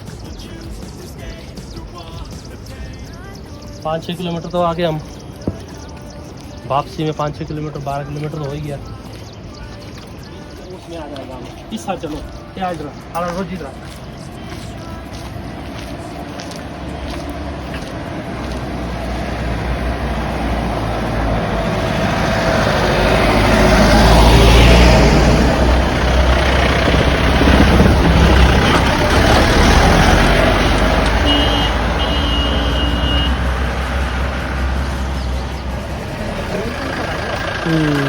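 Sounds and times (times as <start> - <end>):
heavy vehicle passing: 2.5 - 38.0.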